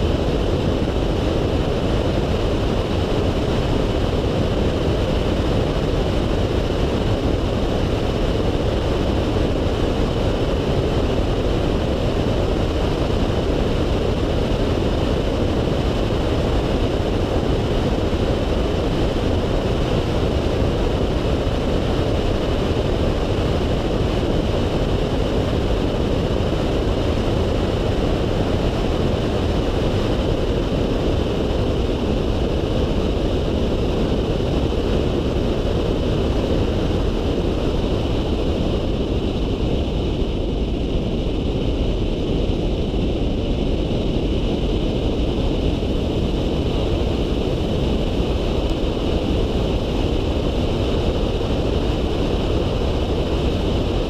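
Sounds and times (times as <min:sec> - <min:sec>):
road and engine noise: 0:00.0 - 0:54.0
wind rush on microphone: 0:00.0 - 0:54.0.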